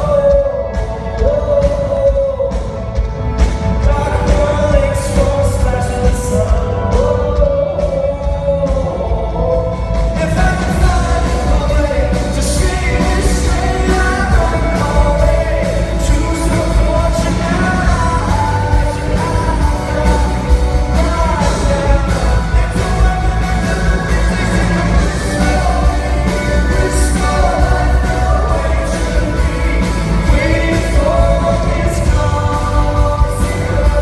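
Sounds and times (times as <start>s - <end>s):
live rock band: 0.0s - 34.0s
man singing: 0.0s - 34.0s.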